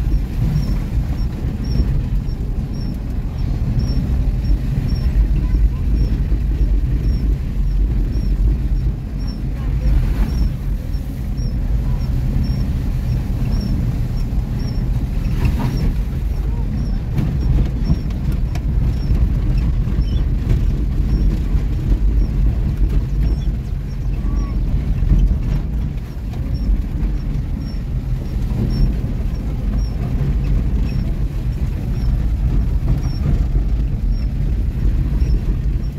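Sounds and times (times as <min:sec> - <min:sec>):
car body and tyres rumbling: 0:00.0 - 0:35.9
car engine running low: 0:00.0 - 0:35.9.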